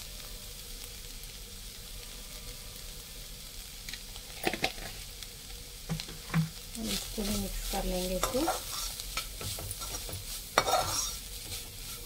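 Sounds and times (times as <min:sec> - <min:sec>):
minced meat sizzling in pan: 0:00.0 - 0:12.0.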